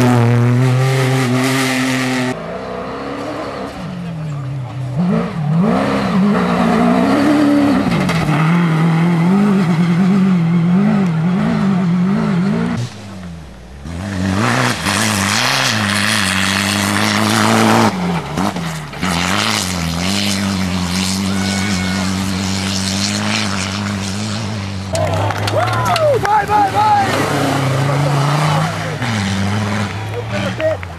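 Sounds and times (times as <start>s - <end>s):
car engines revving: 0.0s - 30.9s.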